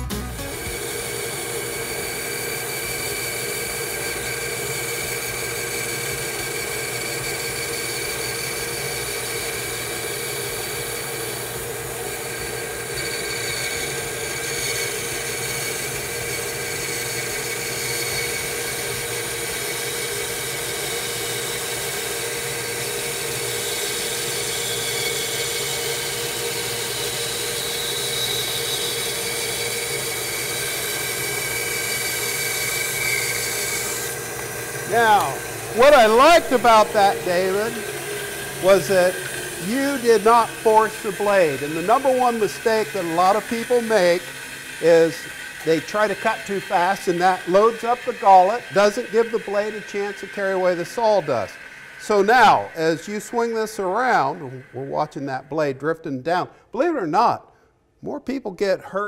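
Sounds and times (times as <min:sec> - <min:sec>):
bandsaw cutting wood: 0:00.0 - 0:56.0.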